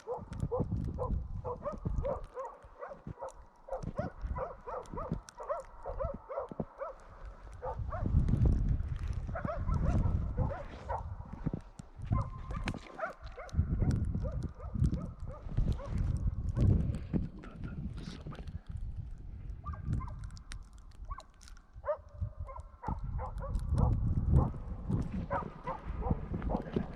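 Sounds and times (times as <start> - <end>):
distant dogs barking: 0.0 - 8.3, 9.2 - 16.6, 19.6 - 26.9
wind rumble on microphone: 0.0 - 26.9.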